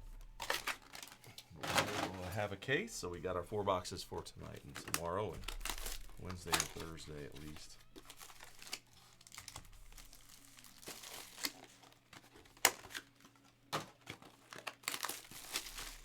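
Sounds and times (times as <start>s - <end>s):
packaging crinkling and tearing: 0.0s - 2.5s, 4.1s - 16.0s.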